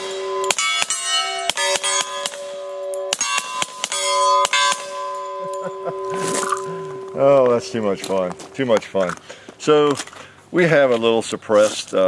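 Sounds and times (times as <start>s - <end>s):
steel targets clanging: 0.0s - 9.8s.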